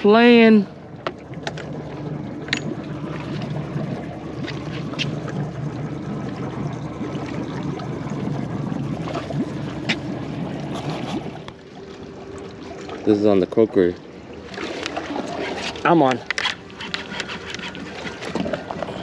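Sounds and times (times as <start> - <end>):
boat motor idling: 0.0 - 19.0
water against hull: 0.0 - 19.0.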